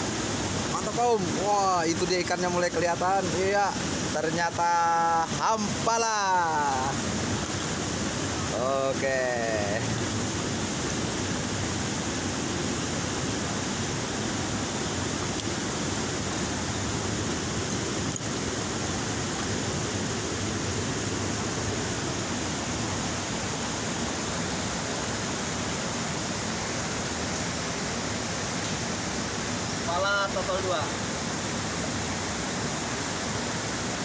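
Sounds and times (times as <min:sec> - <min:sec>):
river rapids rushing over boulders: 0:00.0 - 0:34.0.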